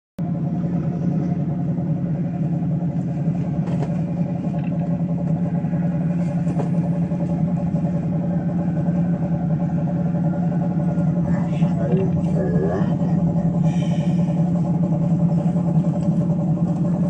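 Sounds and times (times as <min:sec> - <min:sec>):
vehicle engine droning: 0:00.2 - 0:17.0.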